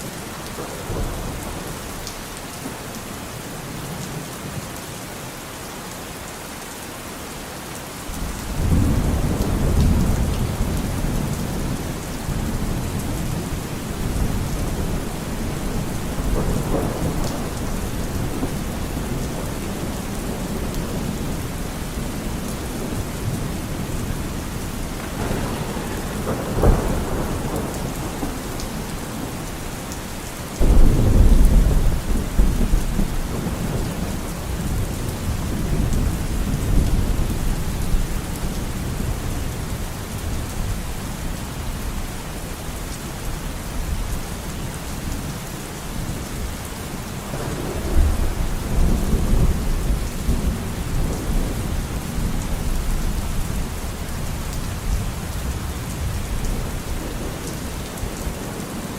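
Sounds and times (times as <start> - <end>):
thunder clap and rumble: 0.0 - 2.8, 8.1 - 42.0, 45.9 - 58.7
steady rain: 0.0 - 58.9.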